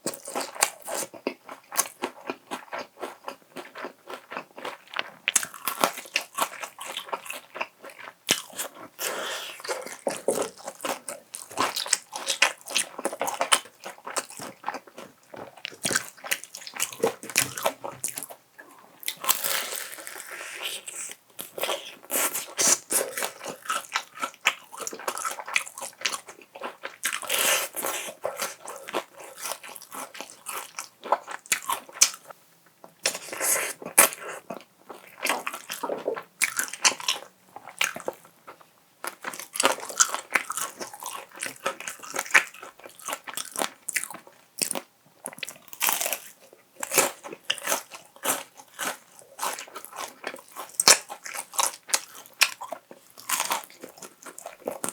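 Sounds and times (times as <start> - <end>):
crunching and chewing fried chicken: 0.0 - 54.9.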